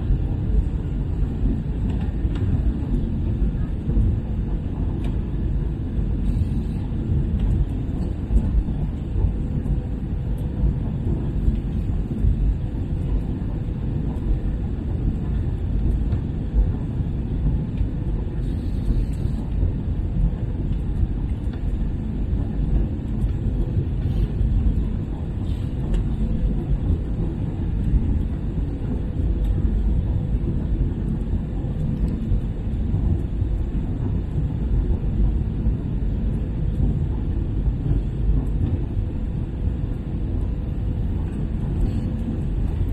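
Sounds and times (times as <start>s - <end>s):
engine and airflow rumble: 0.0s - 42.9s.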